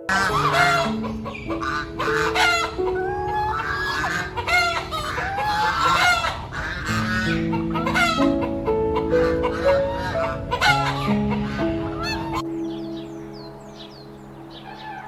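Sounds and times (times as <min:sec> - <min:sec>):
soft piano music: 0:00.0 - 0:15.0
chickens clucking and calling: 0:00.1 - 0:15.0.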